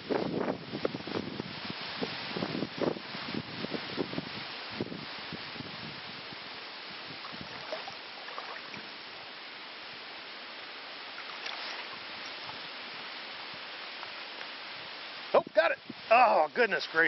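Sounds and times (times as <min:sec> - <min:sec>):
stream water rushing: 0:00.2 - 0:17.0.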